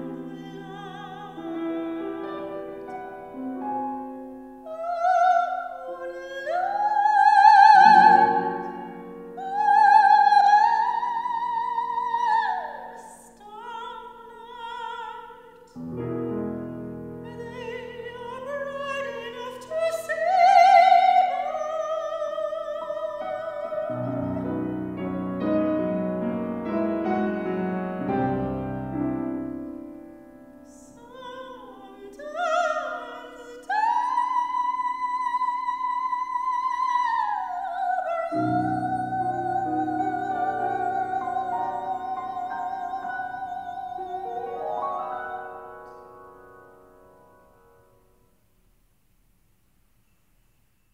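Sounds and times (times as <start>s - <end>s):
operatic soprano singing: 0.0s - 3.6s, 4.5s - 16.1s, 17.1s - 27.7s, 30.7s - 46.0s
grand piano: 0.0s - 48.5s.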